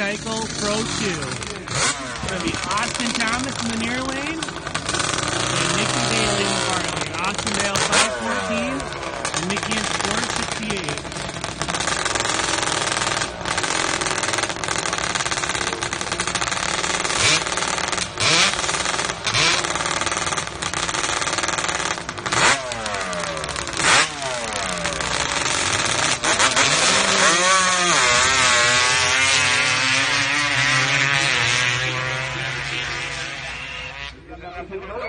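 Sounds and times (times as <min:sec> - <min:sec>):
motorcycles accelerating through gears: 0:00.0 - 0:35.0
motorcycles revving: 0:00.0 - 0:35.0.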